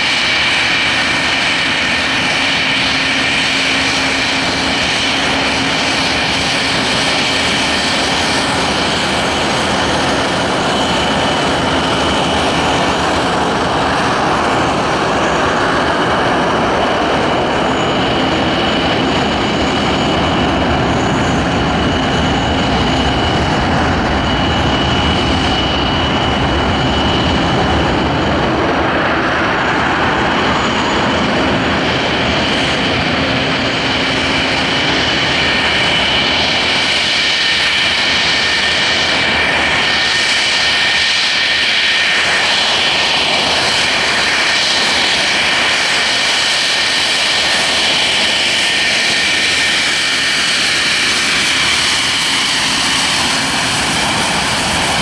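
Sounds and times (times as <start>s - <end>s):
high turbine whine: 0.0s - 55.0s
jet engines at taxi power: 0.0s - 55.0s.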